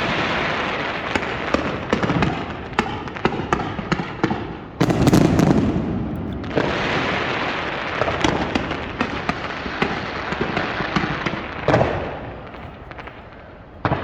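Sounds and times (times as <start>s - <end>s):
deep fireworks bursts: 0.0s - 14.0s
fireworks crackling pops: 0.0s - 14.0s.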